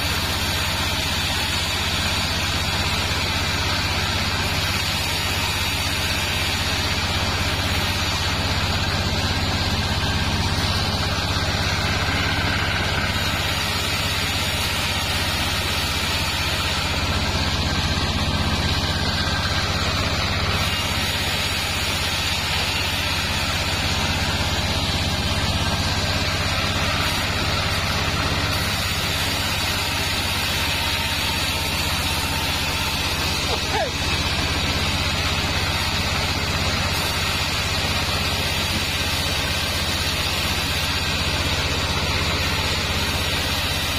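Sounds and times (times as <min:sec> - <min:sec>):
bandsaw ripping wood boards: 0:00.0 - 0:43.9.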